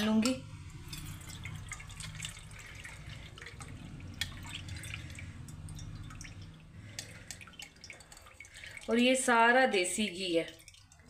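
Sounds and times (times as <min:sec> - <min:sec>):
low steady hum: 0:00.0 - 0:11.0
water dripping into a steel bowl: 0:00.0 - 0:11.0
water pouring through a strainer: 0:00.1 - 0:11.0.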